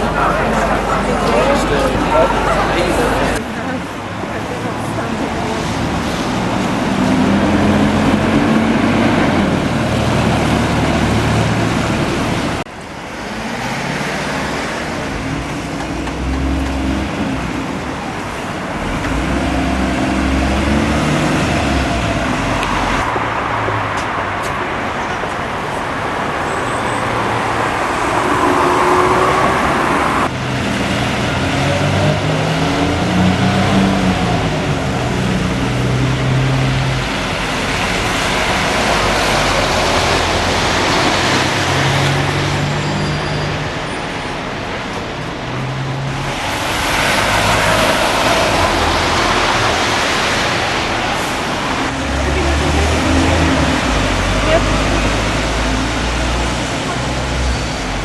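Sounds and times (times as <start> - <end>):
large vehicle engines moving off: 0.0 - 58.0
steady road noise: 0.0 - 58.0.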